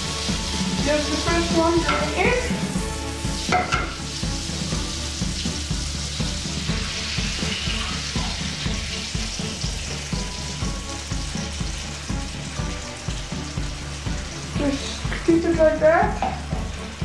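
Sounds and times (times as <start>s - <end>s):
egg sizzling in a frying pan: 0.0s - 17.0s.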